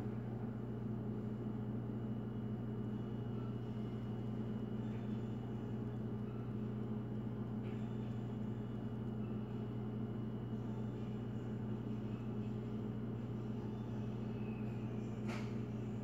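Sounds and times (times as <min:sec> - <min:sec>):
electrical hum of appliances: 0:00.0 - 0:16.0.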